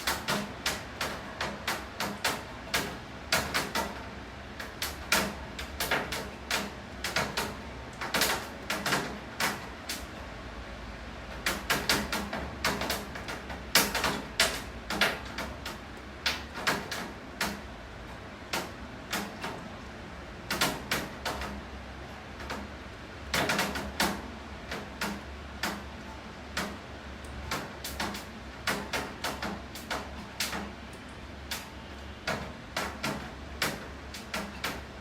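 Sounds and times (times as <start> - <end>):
raindrops tapping hard surface: 0.0 - 10.3, 11.2 - 21.7, 22.3 - 35.0.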